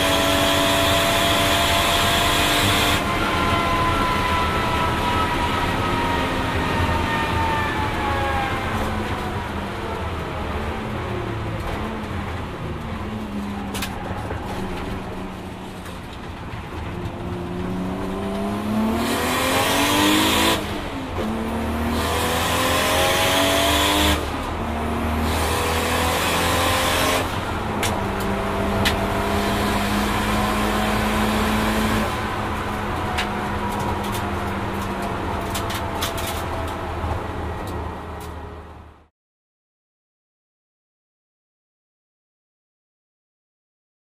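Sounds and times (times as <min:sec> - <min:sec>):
car engine accelerating through gears: 0:00.0 - 0:38.8.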